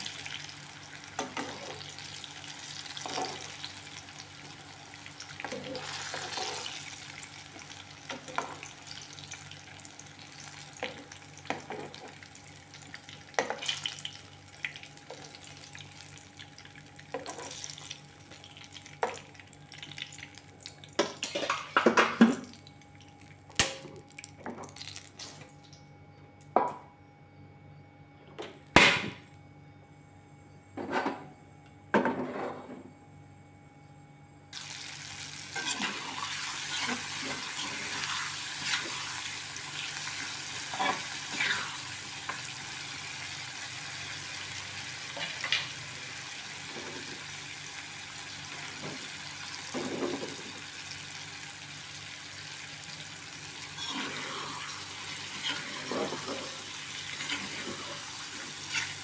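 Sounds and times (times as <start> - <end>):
hot oil sizzling: 0.0 - 25.7, 34.6 - 59.0.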